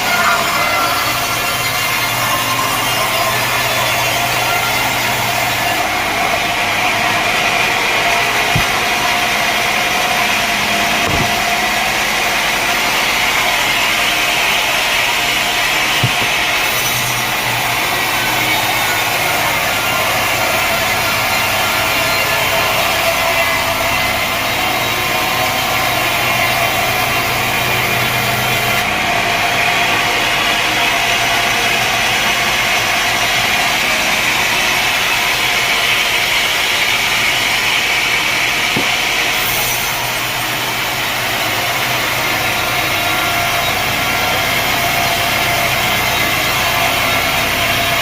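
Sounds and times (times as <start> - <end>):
saw cutting through a log: 0.0 - 48.0.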